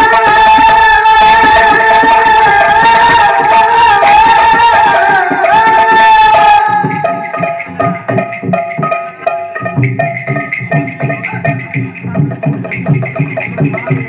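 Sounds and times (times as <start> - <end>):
barrel drum playing rhythm: 0.0 - 14.0.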